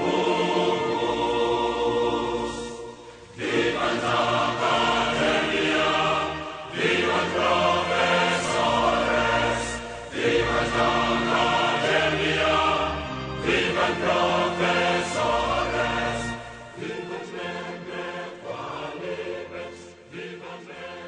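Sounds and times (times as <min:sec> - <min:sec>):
choir singing held chords: 0:00.0 - 0:21.0.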